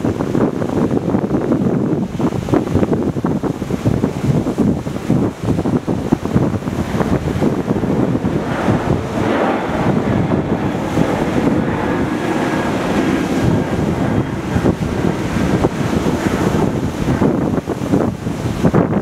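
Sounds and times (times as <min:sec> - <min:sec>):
wind buffeting microphone: 0:00.0 - 0:19.0
sea waves breaking on rocks: 0:03.2 - 0:18.9.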